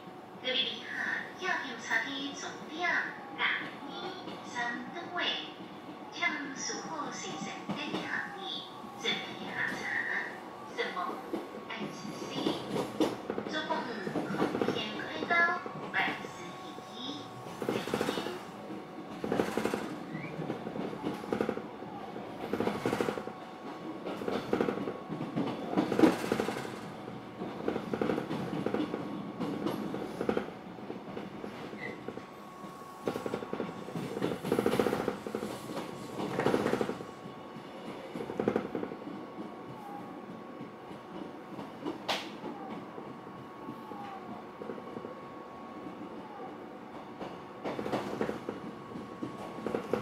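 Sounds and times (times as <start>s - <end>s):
train wheels clattering on rails: 1.0s - 45.2s, 45.8s - 50.0s.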